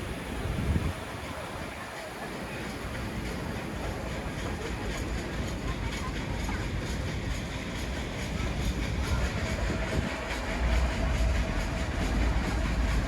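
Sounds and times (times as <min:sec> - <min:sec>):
toy train rumbling and clattering: 0:00.6 - 0:13.0.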